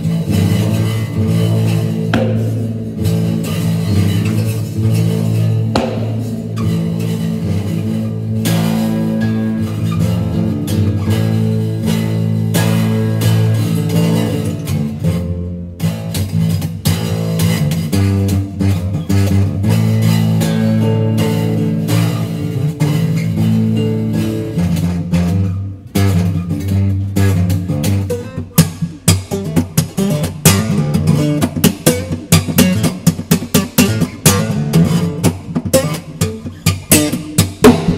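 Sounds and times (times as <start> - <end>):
acoustic bass guitar drone: 0.0 - 37.9.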